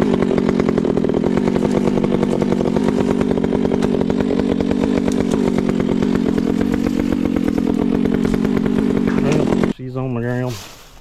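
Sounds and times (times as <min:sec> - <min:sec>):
chainsaw cutting wood: 0:00.0 - 0:09.8.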